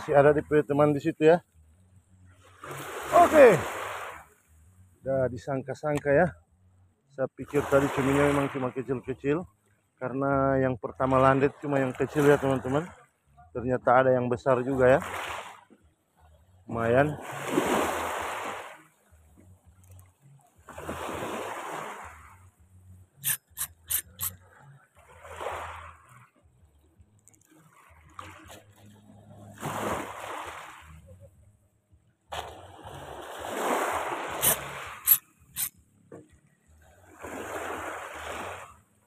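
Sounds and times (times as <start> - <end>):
small waves lapping at shore: 0.0 - 10.2, 10.8 - 39.0.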